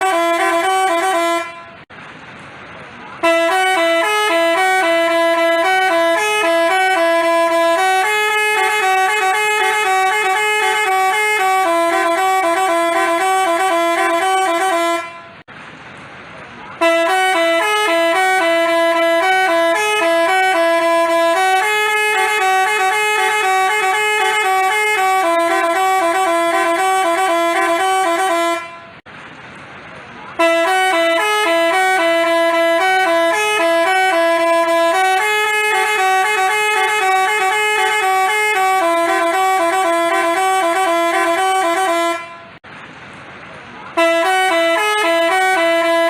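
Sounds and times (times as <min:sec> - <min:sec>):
bus horn playing a tune: 0:00.0 - 0:01.9, 0:03.0 - 0:15.5, 0:16.7 - 0:29.1, 0:30.3 - 0:42.6, 0:43.9 - 0:46.0.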